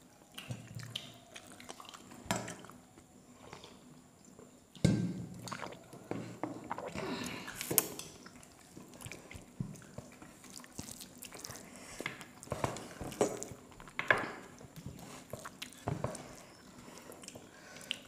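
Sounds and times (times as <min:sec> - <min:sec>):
wet chewing: 0:00.3 - 0:02.8, 0:05.4 - 0:18.0.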